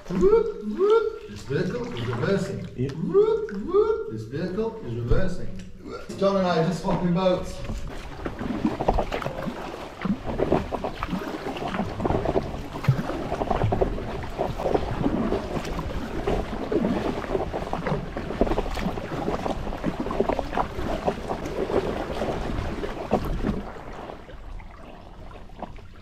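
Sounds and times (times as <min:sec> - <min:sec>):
kayak paddle strokes splashing: 0:00.0 - 0:26.0.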